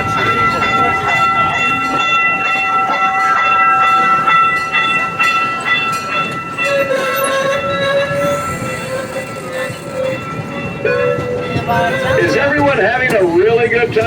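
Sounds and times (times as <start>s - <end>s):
train engine rumbling: 0.0s - 14.0s.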